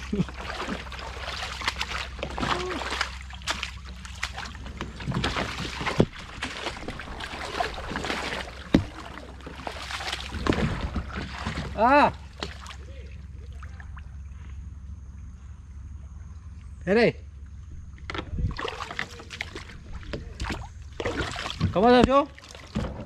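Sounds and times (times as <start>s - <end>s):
water splashing at paddle: 0.0s - 14.1s, 18.2s - 23.0s.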